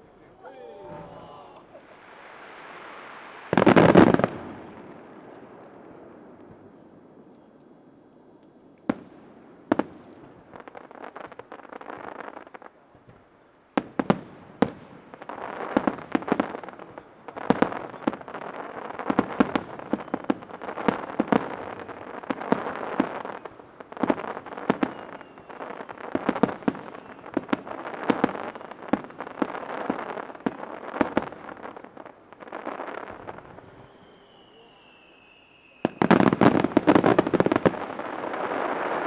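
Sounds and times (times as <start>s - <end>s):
fireworks bursting with bangs: 0.0s - 7.4s, 8.8s - 39.0s
fireworks crackling: 0.0s - 39.0s.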